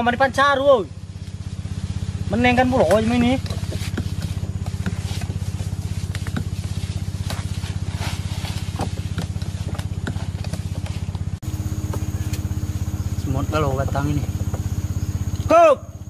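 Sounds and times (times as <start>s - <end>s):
small motor pulsing: 1.0s - 16.0s.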